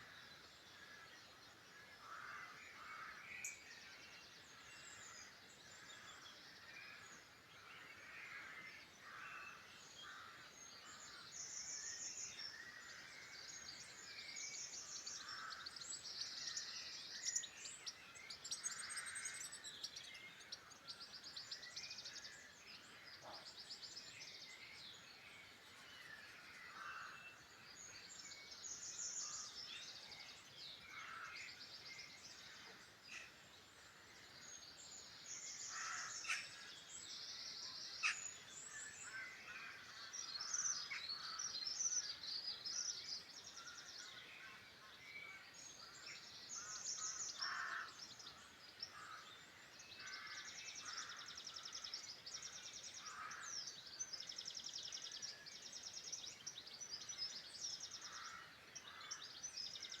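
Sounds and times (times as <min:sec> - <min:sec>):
songbirds chirping and trilling: 0:00.0 - 1:00.0.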